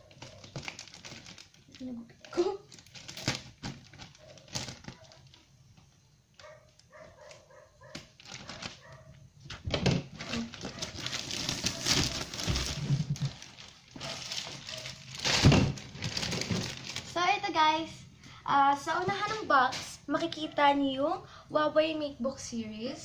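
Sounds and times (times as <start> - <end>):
plastic shrink wrap crinkling: 0.0 - 17.4, 18.8 - 20.3.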